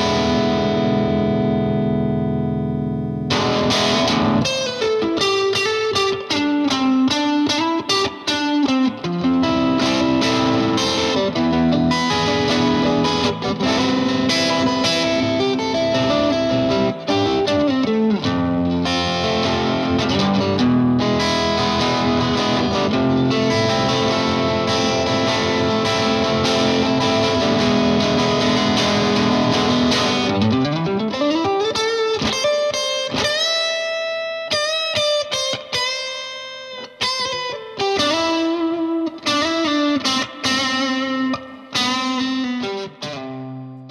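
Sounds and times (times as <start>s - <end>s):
distorted electric guitar riffs: 0.0s - 43.9s
picked guitar notes: 0.0s - 43.9s.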